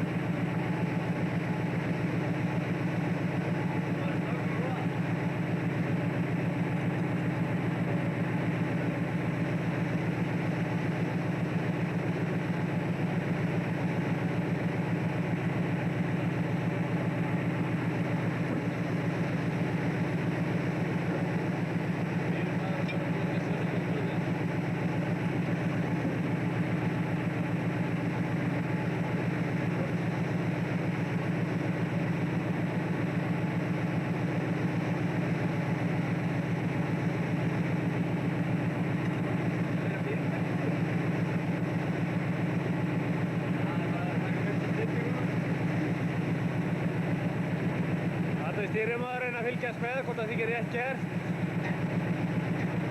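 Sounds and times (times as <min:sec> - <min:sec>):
boat engine droning: 0:00.0 - 0:52.9
machinery hum: 0:00.0 - 0:52.9.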